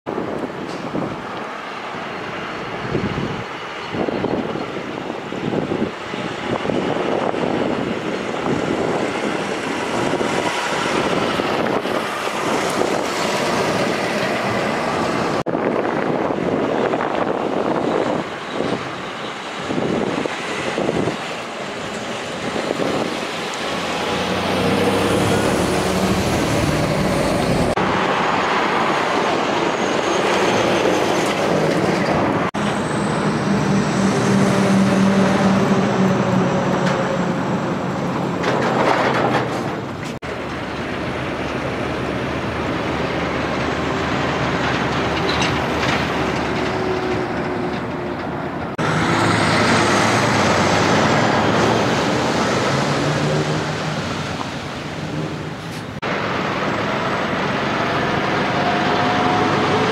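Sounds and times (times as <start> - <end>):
traffic passing: 0.1 - 59.9.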